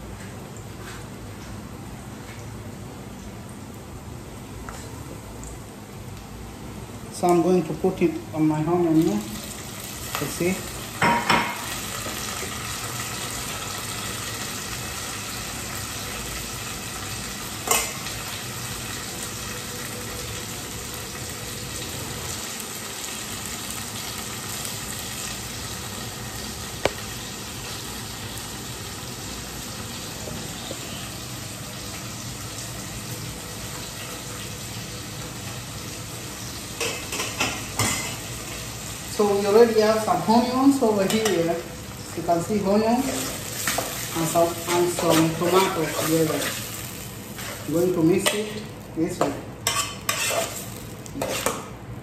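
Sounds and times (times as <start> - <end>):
onions and tomato sizzling in a pan: 7.2 - 52.0.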